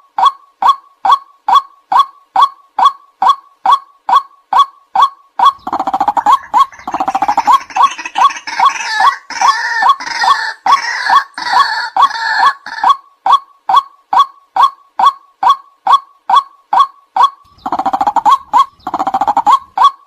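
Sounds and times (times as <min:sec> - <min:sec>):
waterhen calling: 0:00.6 - 0:20.0.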